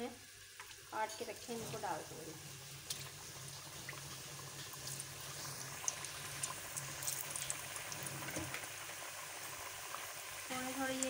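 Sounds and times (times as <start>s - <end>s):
dough deep-frying in oil: 0.0s - 11.0s.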